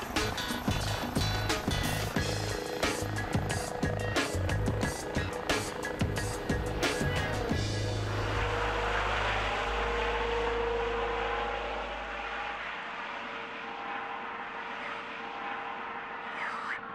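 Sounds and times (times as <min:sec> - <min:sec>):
helicopter rotor and turbine: 0:00.0 - 0:16.9.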